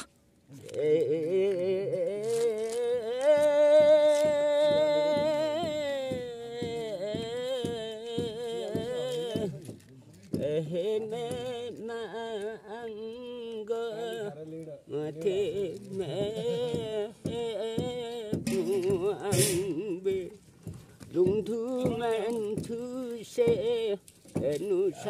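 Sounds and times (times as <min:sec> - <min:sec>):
elderly man singing unaccompanied: 0:00.0 - 0:25.0.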